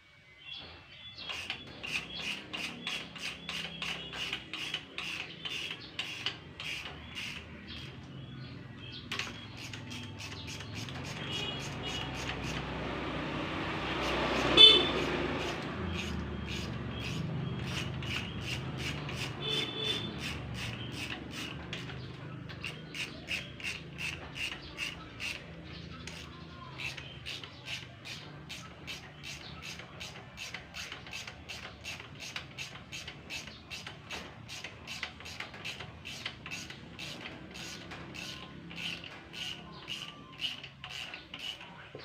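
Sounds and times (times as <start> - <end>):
hand tool rasping on metal: 1.2 - 8.1, 9.0 - 42.0.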